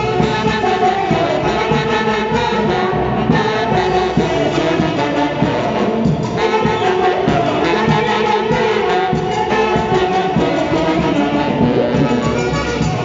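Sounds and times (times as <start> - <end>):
band music with wind instruments: 0.0 - 13.0.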